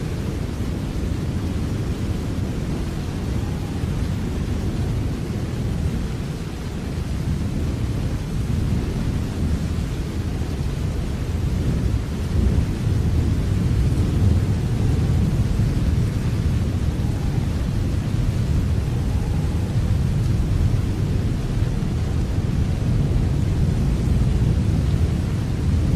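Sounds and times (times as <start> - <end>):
deep continuous rumble: 0.0 - 25.9
steady rain: 0.0 - 25.9.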